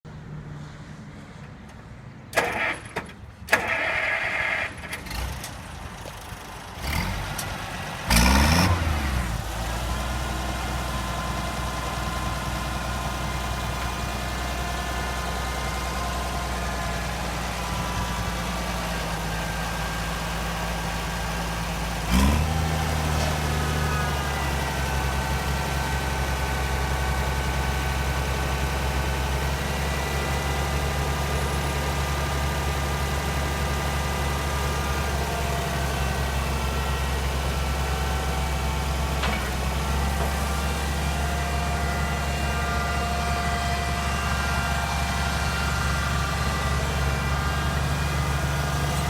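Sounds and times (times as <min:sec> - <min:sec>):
tractor engine starting and idling: 0:01.4 - 0:49.0.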